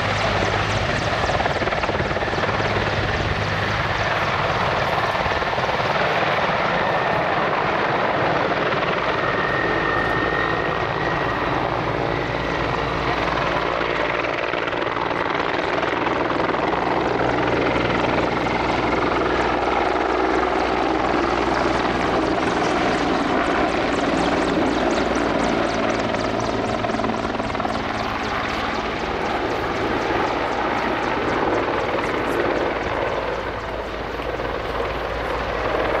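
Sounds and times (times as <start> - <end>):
helicopter rotor chopping: 0.0 - 36.0.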